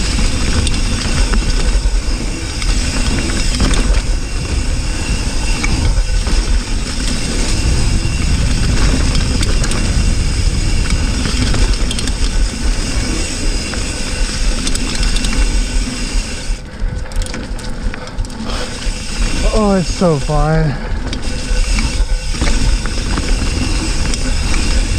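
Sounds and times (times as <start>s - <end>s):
bike rattles: 0.0s - 24.9s
wind rush on microphone: 0.0s - 24.9s.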